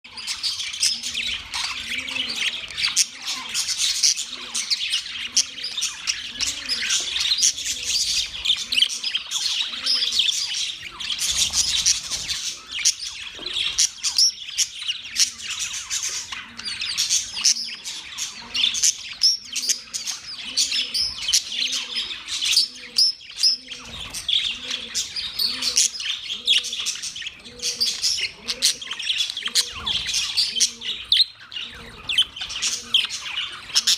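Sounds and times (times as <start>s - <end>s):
budgerigars chirping and squawking: 0.1s - 33.9s.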